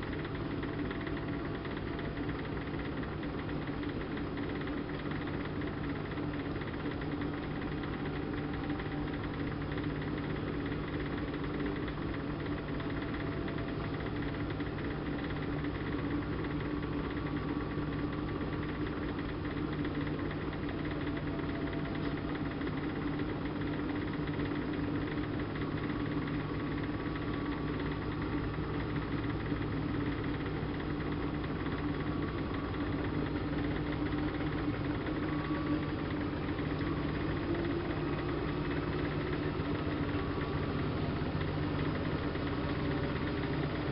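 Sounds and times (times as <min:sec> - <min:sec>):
washing machine running: 0:00.0 - 0:43.9.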